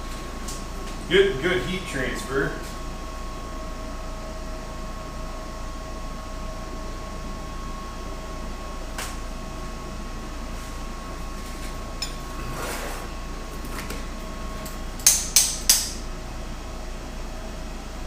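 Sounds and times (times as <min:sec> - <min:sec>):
shop hum: 0:00.0 - 0:18.0.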